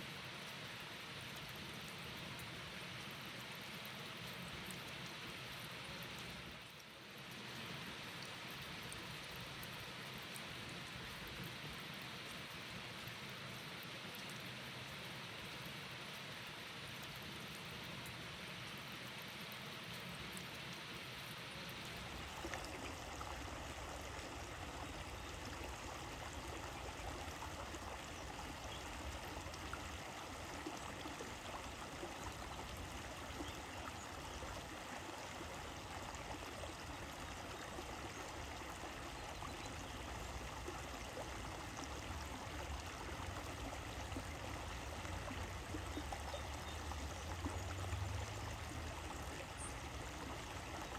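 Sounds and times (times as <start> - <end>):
brook water flowing: 0.0 - 50.9
rain-like hiss: 0.0 - 50.9.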